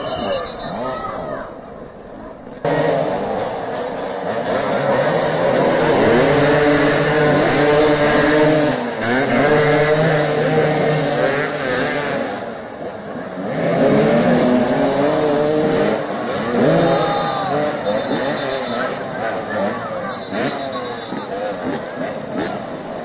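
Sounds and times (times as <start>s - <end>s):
motorcycles revving hard: 0.0s - 23.0s.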